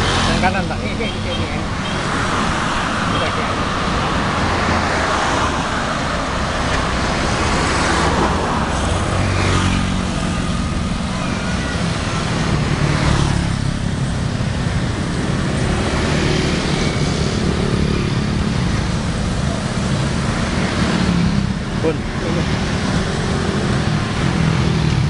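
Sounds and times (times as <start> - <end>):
motorbikes and cars passing: 0.0 - 25.0
street traffic noise: 0.0 - 25.0.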